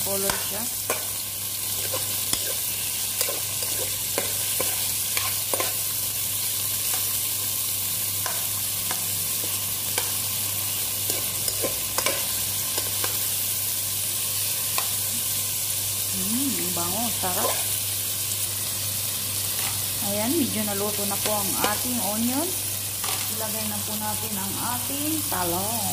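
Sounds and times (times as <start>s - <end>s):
onion sizzling in hot oil: 0.0s - 25.9s.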